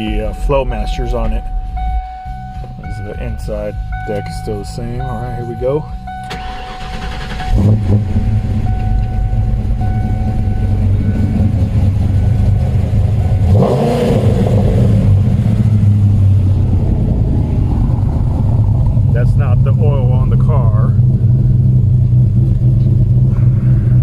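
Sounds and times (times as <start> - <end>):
car engine idling: 0.0 - 24.0
car engine starting: 0.0 - 24.0
engine throttle blip: 0.0 - 24.0.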